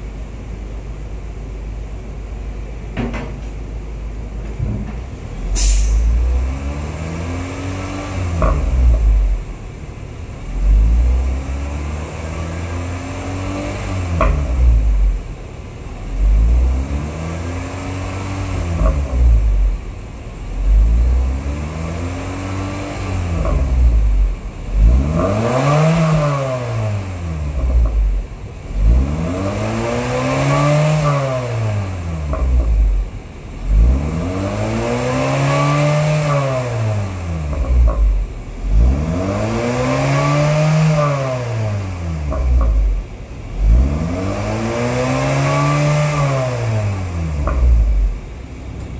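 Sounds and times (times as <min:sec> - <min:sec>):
car engine revving: 0:05.0 - 0:48.9.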